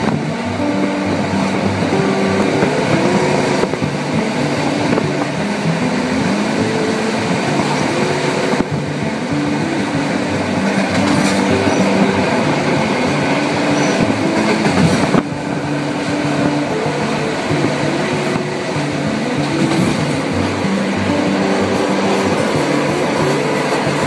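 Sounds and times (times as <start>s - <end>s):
train rumble inside carriage: 0.0s - 24.0s.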